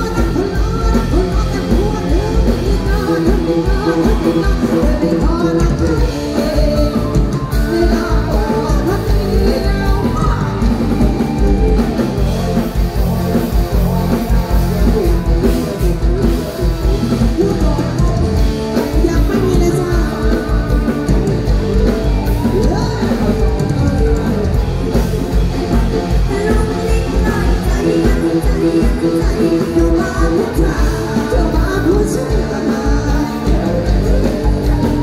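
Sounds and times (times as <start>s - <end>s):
woman singing into a microphone: 0.0s - 13.2s, 14.7s - 21.5s, 26.1s - 35.0s
bass-heavy drum beat: 0.0s - 35.0s
live band music: 0.0s - 35.0s.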